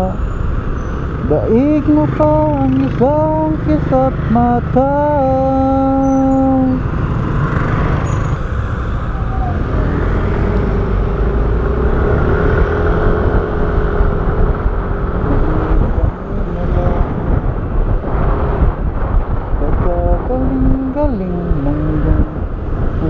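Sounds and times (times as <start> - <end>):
wind and road rumble: 0.0 - 23.0.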